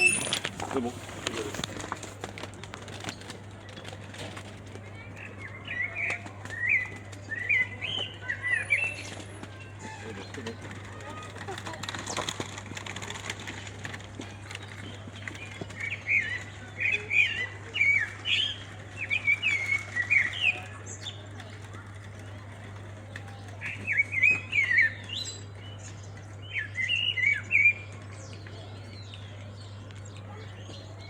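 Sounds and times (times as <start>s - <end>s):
songbird chirping: 3.1s - 31.0s.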